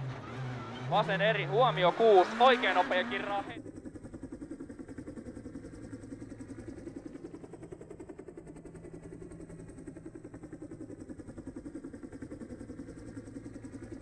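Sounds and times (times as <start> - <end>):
rally car engine running: 0.0 - 14.0.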